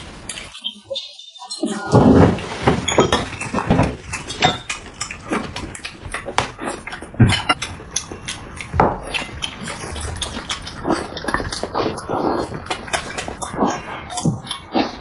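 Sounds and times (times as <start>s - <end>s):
chewing and slurping: 2.5s - 15.0s.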